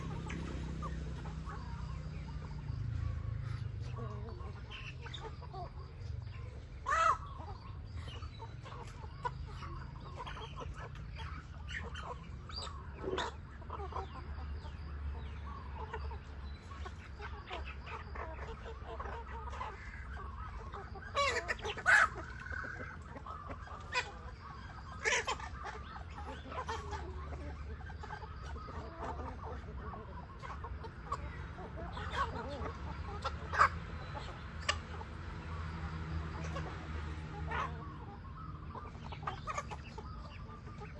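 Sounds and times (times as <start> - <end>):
chickens clucking: 0.0 - 40.9
sharp chicken calls: 0.0 - 40.9.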